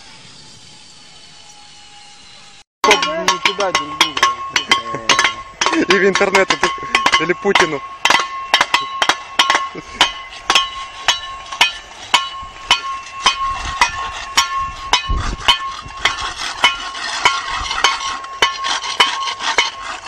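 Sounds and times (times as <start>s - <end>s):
metal blades chipping asphalt: 2.8s - 20.0s.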